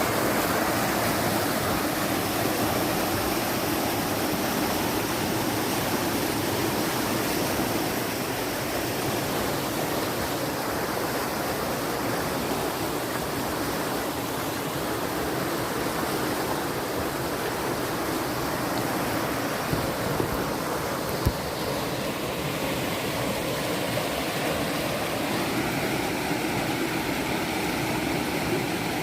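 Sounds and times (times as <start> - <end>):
fast-flowing water rushing: 0.0 - 29.0.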